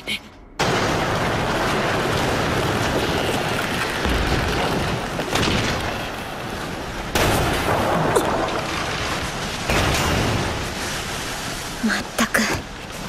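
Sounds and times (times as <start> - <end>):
rumble of blasts and debris: 0.0 - 13.0.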